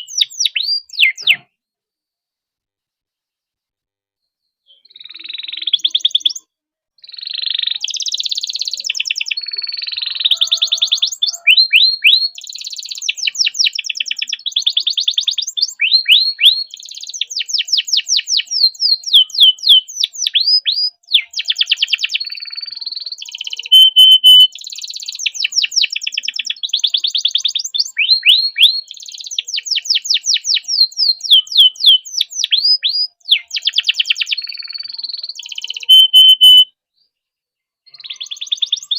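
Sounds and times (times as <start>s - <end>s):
canary singing trills: 0.0s - 1.5s, 4.6s - 36.7s, 37.9s - 38.9s.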